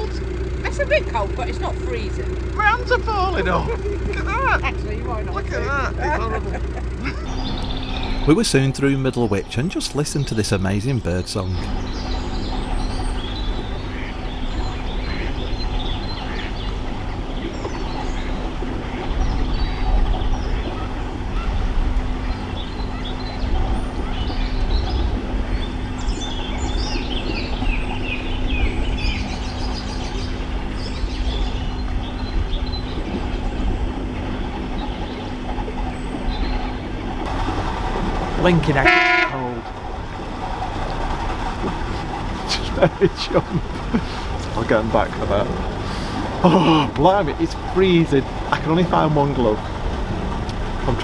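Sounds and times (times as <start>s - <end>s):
constant hum: 0.0s - 51.0s
steady low rumble: 0.0s - 51.0s
wild birds singing: 0.0s - 51.0s.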